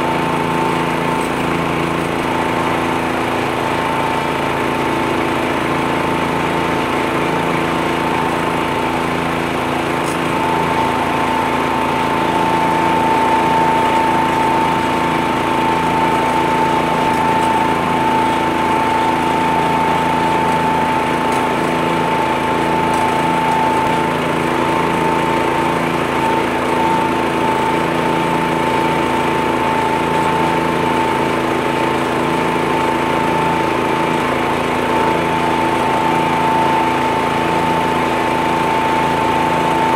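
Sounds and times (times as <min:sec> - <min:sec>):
leaf blower high whine: 0:00.0 - 0:39.9
tractor engine running: 0:00.0 - 0:39.9.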